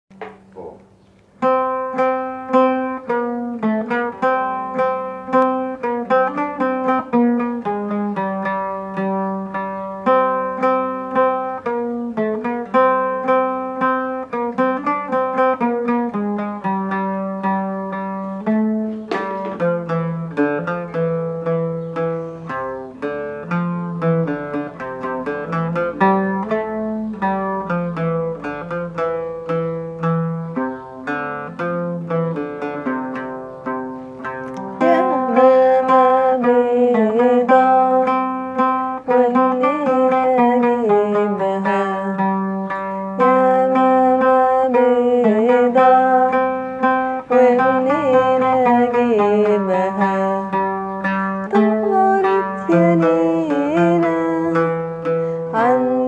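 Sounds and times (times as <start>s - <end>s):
solo oud plucked melody: 0.1s - 56.0s.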